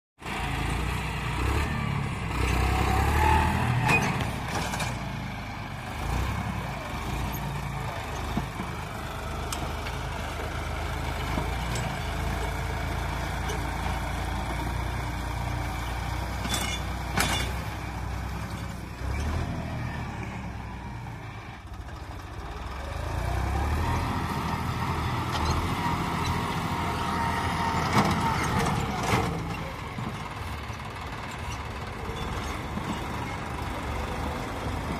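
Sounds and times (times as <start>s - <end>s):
tractor diesel engine under load: 0.2s - 34.9s.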